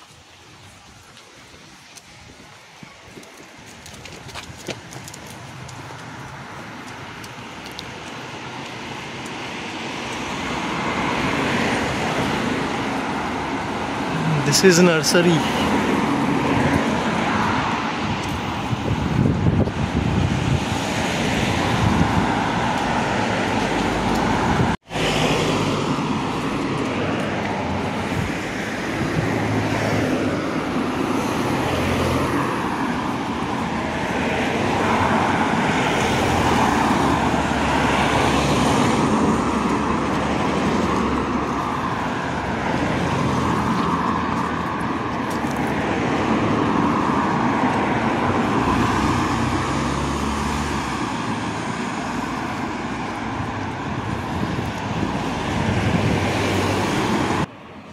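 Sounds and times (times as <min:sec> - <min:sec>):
cars passing: 0:00.0 - 0:57.9.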